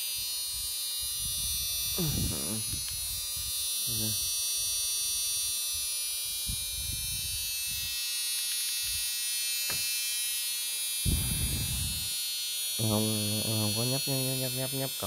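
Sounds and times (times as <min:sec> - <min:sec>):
high-pitched electrical whine: 0:00.0 - 0:15.0.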